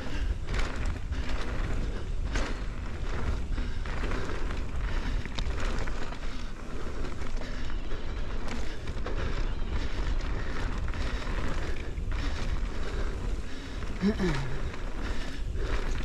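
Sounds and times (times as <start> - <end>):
bike rattling over bumps: 0.0 - 16.0
bike tyres on dirt: 0.0 - 16.0
wind rumbling on microphone: 0.0 - 16.0.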